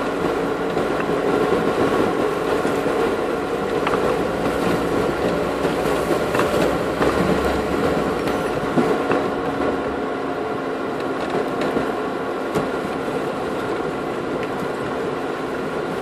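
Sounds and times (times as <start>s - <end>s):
engine rumble with whine: 0.0s - 16.0s.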